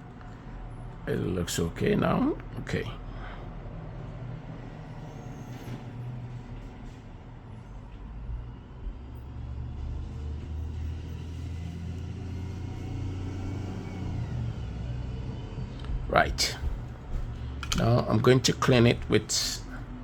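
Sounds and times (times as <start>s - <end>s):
low engine-like rumble: 0.0s - 20.0s.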